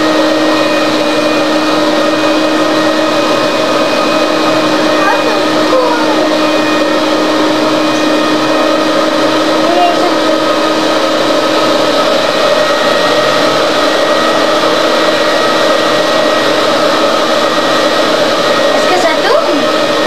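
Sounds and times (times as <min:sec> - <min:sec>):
appliance motor whirring hum: 0:00.0 - 0:20.0.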